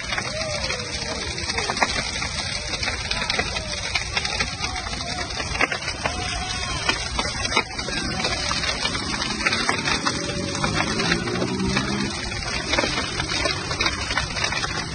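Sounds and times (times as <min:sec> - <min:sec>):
fire crackles and pops: 0:00.0 - 0:14.9
fire flames rushing: 0:00.0 - 0:14.9.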